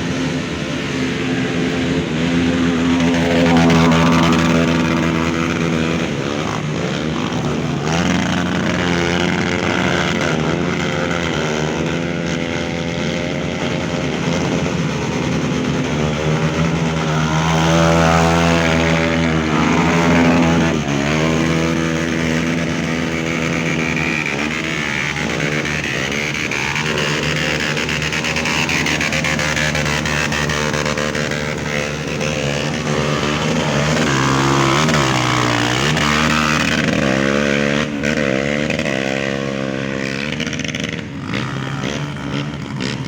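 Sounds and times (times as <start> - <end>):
trail motorcycle engines revving: 0.0 - 43.0.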